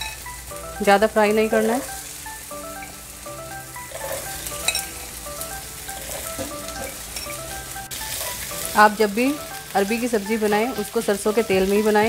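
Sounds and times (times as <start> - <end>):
root pieces sizzling in oil: 0.0 - 12.0.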